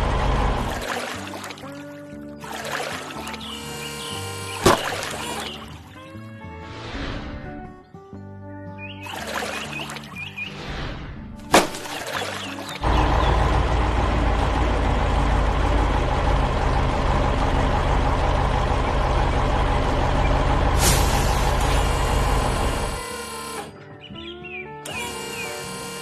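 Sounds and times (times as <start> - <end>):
truck engine rumbling: 0.0 - 6.4, 11.4 - 26.0.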